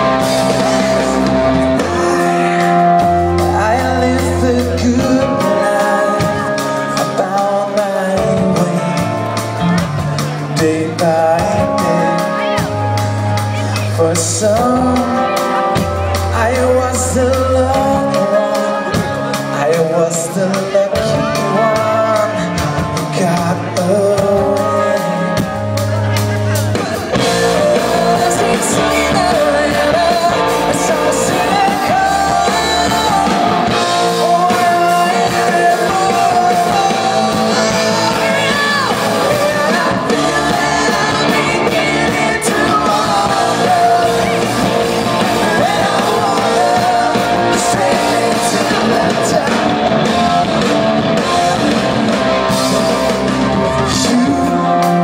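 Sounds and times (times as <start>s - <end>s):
electric guitars: 0.0s - 55.0s
lead singer singing: 0.0s - 55.0s
live rock band playing: 0.0s - 55.0s.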